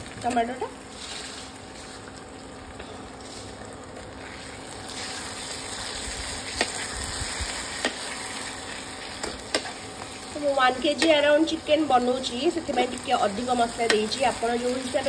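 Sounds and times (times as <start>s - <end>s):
spices sizzling in oil: 0.0s - 15.0s.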